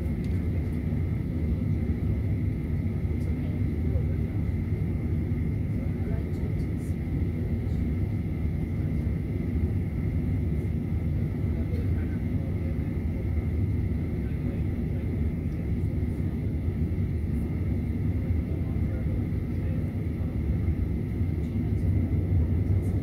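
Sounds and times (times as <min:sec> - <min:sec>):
jet engines idling in cabin: 0:00.0 - 0:23.0.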